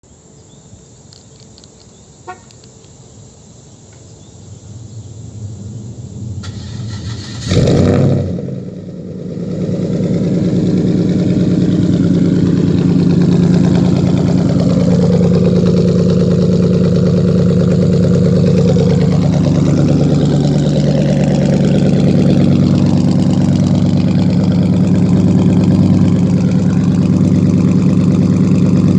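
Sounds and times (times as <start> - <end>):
car engine starting and idling: 4.5 - 28.9.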